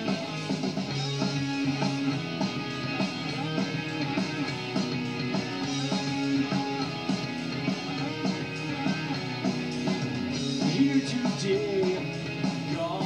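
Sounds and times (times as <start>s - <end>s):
guitar-led rock music: 0.0s - 13.0s.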